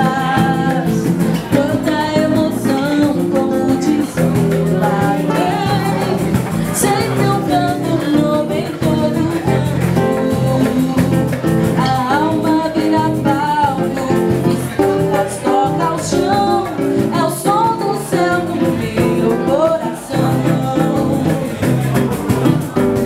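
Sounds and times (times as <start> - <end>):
guitar: 0.0 - 23.0
person singing: 0.0 - 23.0.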